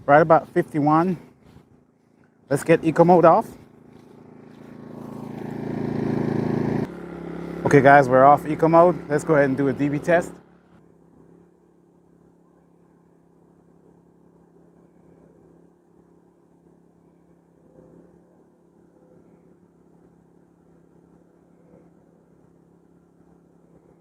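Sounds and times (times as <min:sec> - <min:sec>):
generator humming: 0:00.0 - 0:24.0.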